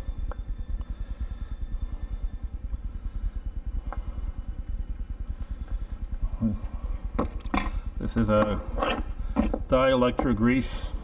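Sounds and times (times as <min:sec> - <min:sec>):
fluttering low rumble: 0:00.0 - 0:11.0.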